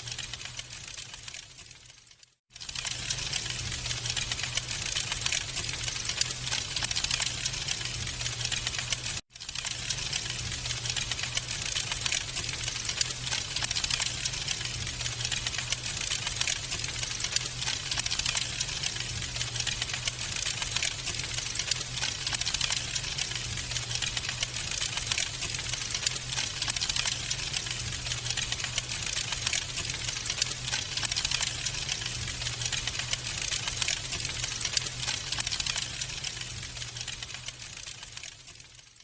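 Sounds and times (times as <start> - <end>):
wood fire crackling: 2.6 - 38.8.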